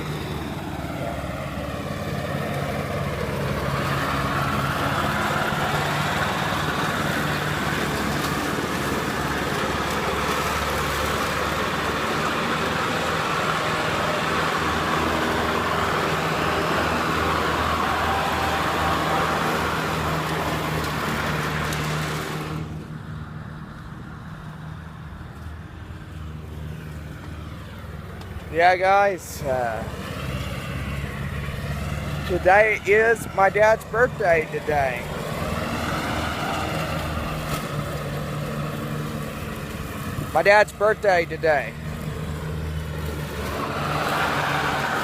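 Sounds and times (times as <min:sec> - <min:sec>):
lawnmower engine hum: 0:00.0 - 0:45.0.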